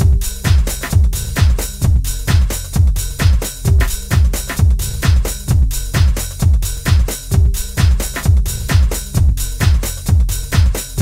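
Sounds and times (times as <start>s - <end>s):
music with kick-drum beat: 0.0s - 11.0s.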